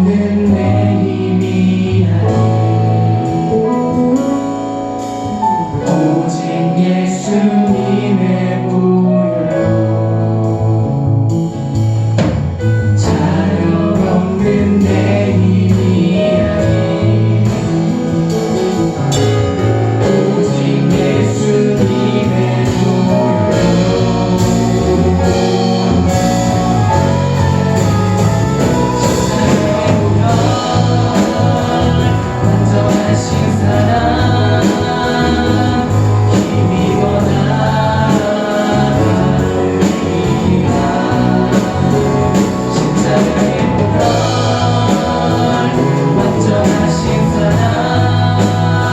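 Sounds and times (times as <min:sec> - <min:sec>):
people singing: 0:00.0 - 0:10.9, 0:12.6 - 0:48.9
drums: 0:00.0 - 0:48.9
guitar: 0:00.0 - 0:48.9.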